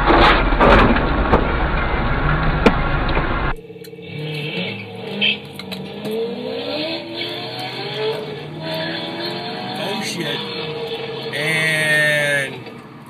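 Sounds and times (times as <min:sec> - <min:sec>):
car engines revving hard: 0:01.2 - 0:13.0.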